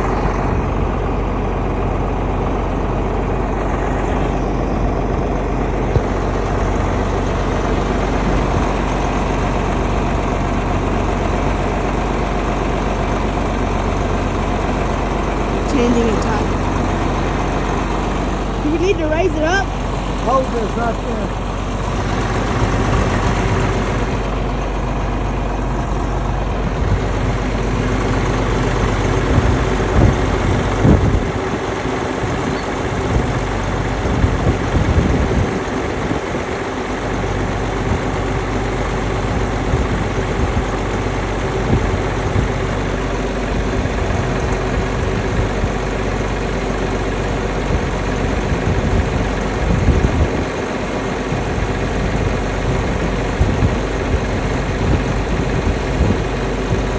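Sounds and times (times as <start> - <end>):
heavy engine idling: 0.0 - 56.9.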